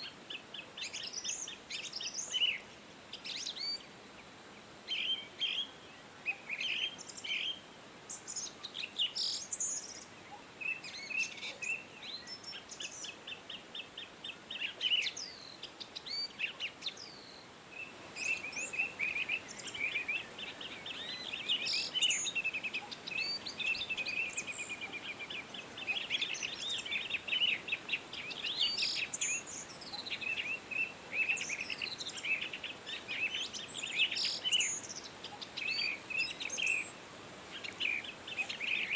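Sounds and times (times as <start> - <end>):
small birds chirping: 6.6 - 38.9.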